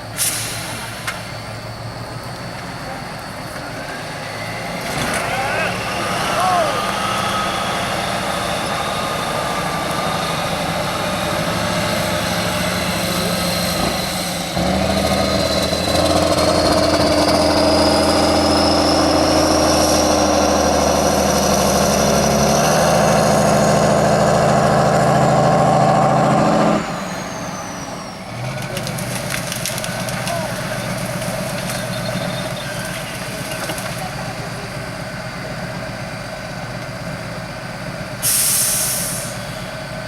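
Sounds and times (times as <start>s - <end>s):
truck engine revving hard: 2.6s - 40.0s.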